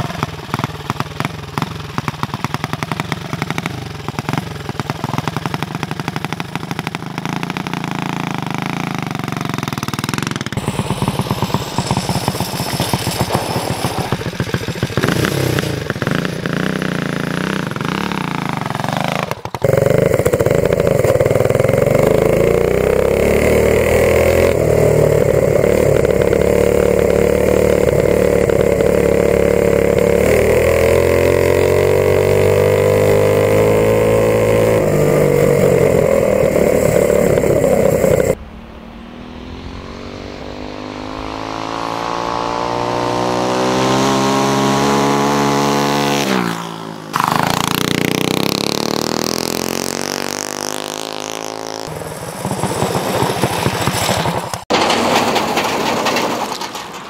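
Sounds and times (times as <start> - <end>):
small gas engine revving: 0.0 - 54.7.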